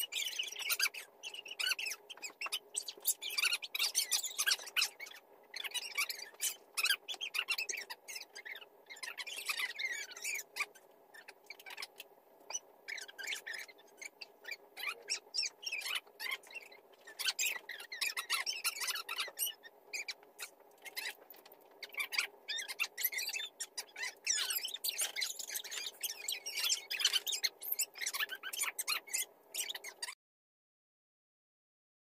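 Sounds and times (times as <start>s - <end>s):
marker squeaking on cardboard: 0.0s - 30.2s.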